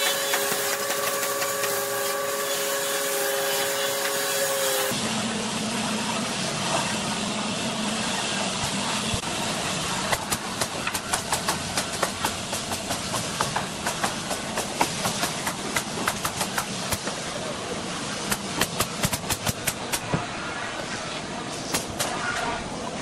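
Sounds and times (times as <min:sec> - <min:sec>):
hiss of air and machinery: 0:00.0 - 0:23.0.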